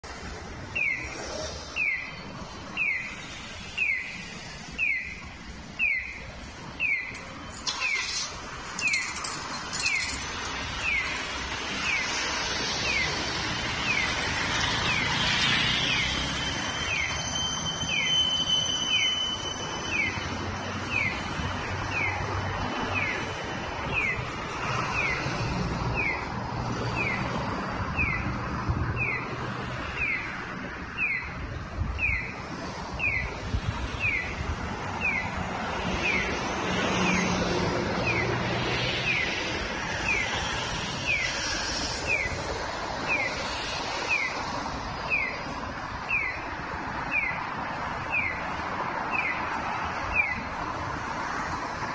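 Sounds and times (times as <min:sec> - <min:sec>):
pedestrian signal electronic chirps: 0:00.7 - 0:28.4, 0:29.0 - 0:30.4, 0:31.0 - 0:33.4, 0:34.0 - 0:47.4, 0:48.0 - 0:50.5.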